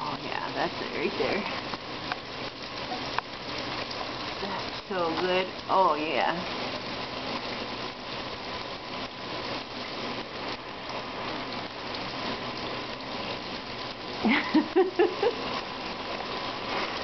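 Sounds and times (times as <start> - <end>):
shower water spraying: 0.0 - 17.0.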